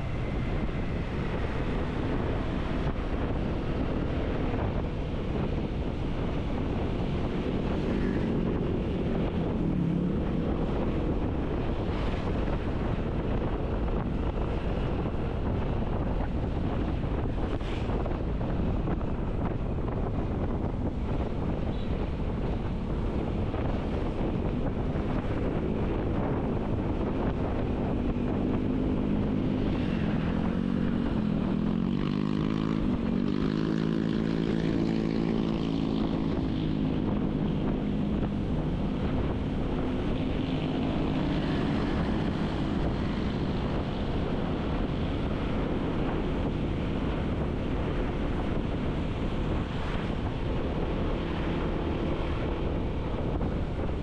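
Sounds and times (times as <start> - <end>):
wind noise on microphone: 0.0 - 54.0.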